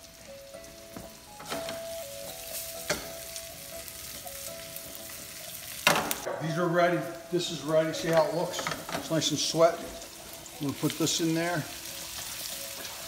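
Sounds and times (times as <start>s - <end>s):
peppers sizzling in a frying pan: 0.0s - 13.0s.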